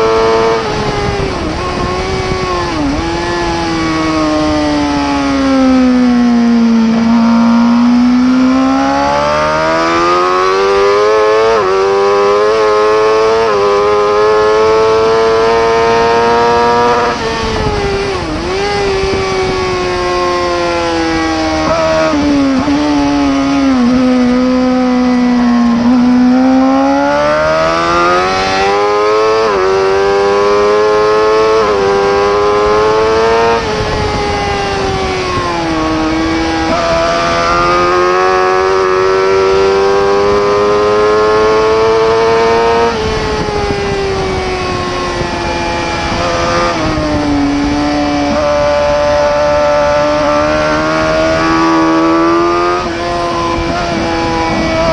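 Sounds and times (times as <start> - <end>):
motorcycle engine at high revs: 0.0 - 54.9.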